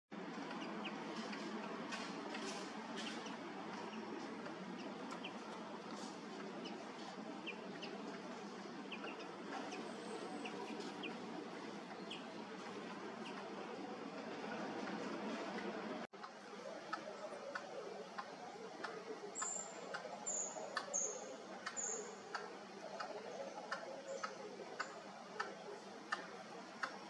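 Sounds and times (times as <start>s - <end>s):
wind rustling foliage: 0.2s - 27.0s.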